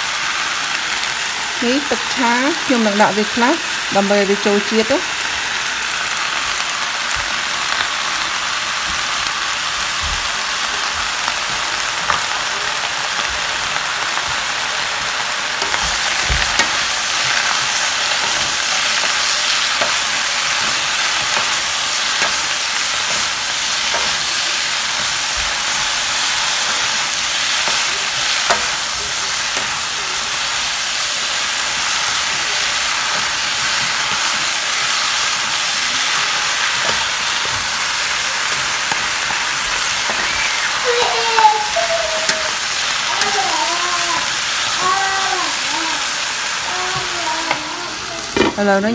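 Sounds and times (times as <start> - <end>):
vegetables sizzling in a pan: 0.0 - 48.9.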